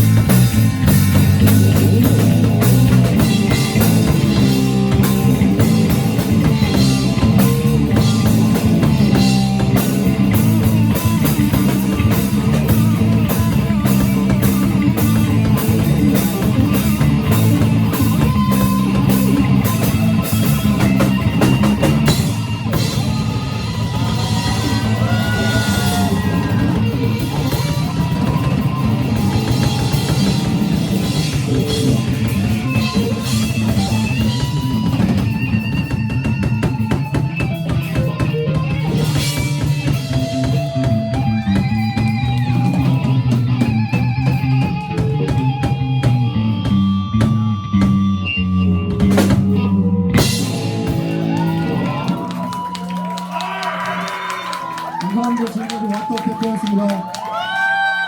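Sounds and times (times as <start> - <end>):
drum kit beat: 0.0 - 48.2, 48.9 - 58.0
live rock band playing: 0.0 - 57.9.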